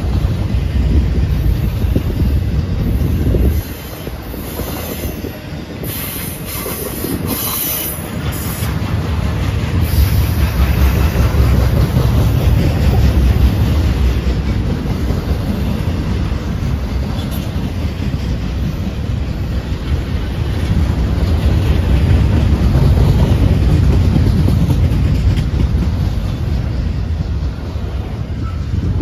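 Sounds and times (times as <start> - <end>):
freight train rumbling past: 0.0 - 29.0
train cars clickety-clack: 0.0 - 29.0.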